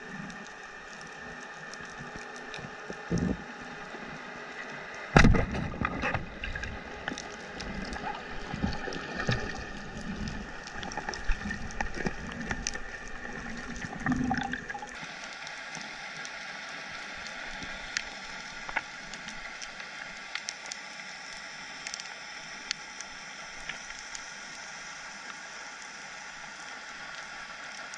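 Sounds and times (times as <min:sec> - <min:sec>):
clicks and crackles: 0:00.0 - 0:27.9
steady underwater hiss: 0:00.0 - 0:27.9.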